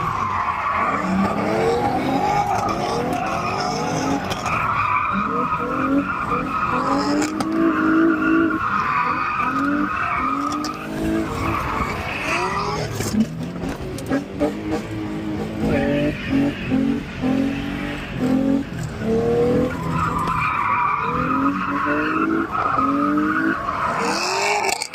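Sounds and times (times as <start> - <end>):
car engine revving: 0.0 - 24.9
tires squealing: 0.0 - 24.9.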